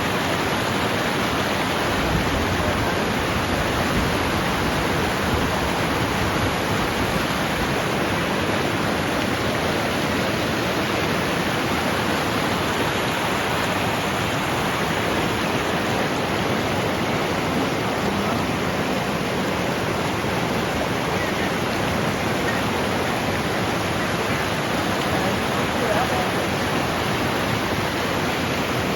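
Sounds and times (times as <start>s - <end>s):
river rushing over rocks: 0.0s - 28.9s.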